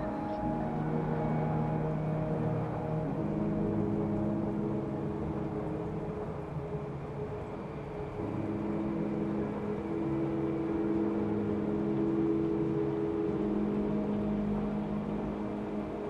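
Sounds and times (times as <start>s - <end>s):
low spooky ambient drone: 0.0s - 16.0s.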